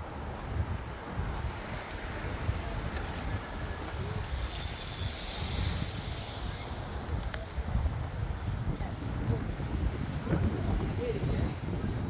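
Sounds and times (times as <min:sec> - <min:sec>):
wind rumbling on microphone: 0:00.0 - 0:12.0
bicycle tyre hiss on tarmac: 0:01.2 - 0:12.0.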